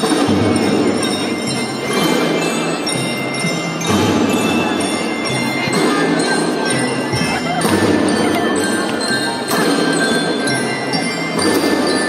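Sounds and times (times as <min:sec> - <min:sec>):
drum band playing a march: 0:00.0 - 0:12.0.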